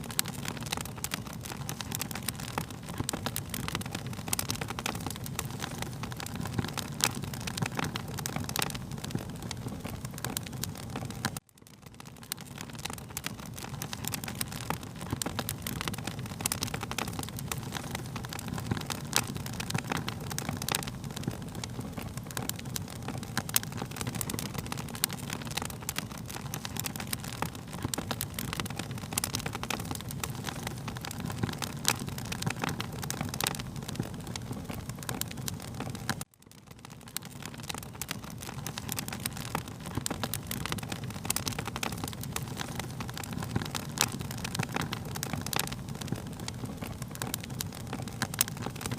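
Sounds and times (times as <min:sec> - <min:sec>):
fire popping and snapping: 0:00.0 - 0:48.9
low rumble of flames: 0:00.0 - 0:48.9.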